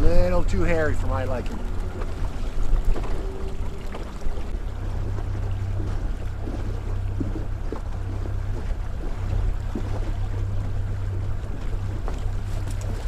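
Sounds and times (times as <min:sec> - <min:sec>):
outboard motor running: 0:00.0 - 0:13.0
water noise: 0:00.0 - 0:13.0
wind: 0:00.0 - 0:13.0.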